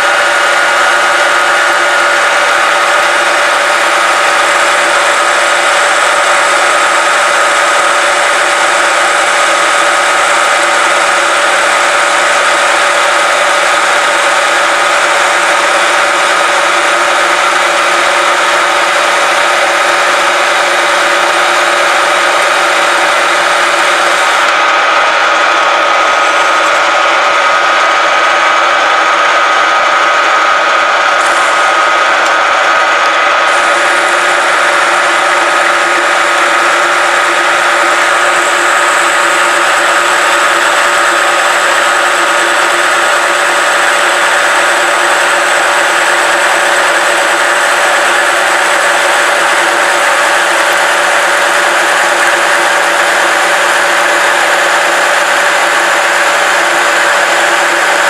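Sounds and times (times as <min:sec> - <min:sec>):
high-pitched whine: 0:00.0 - 0:58.0
metal lathe cutting steel: 0:00.0 - 0:58.0.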